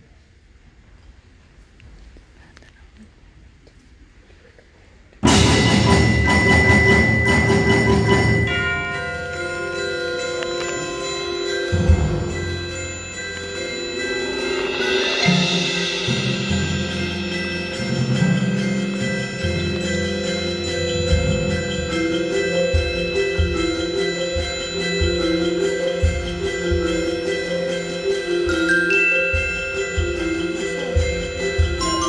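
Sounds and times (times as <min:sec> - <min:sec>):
mallet keyboards: 0:05.2 - 0:32.0
tubular chimes ringing: 0:05.3 - 0:32.0.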